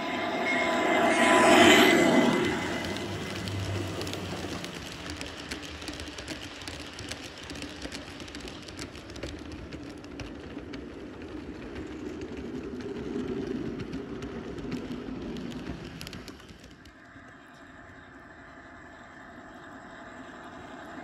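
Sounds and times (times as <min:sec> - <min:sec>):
model train rolling hum: 0:00.0 - 0:21.0
wheels clicking on rails: 0:00.0 - 0:21.0.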